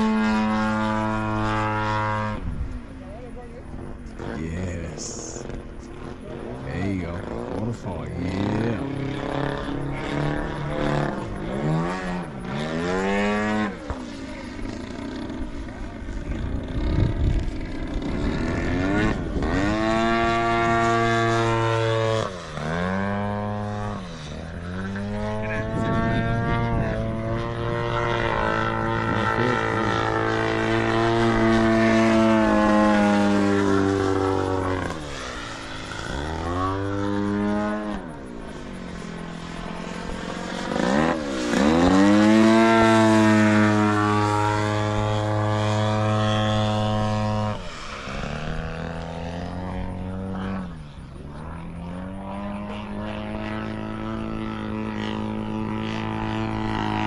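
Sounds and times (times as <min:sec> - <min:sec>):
model airplane engine and propeller: 0:00.0 - 0:57.0.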